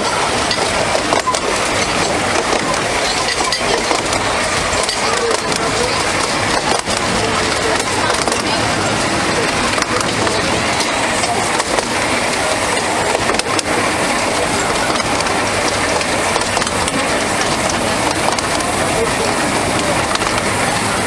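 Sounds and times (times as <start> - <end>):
wheels rumbling and rattling on rails: 0.0 - 21.0.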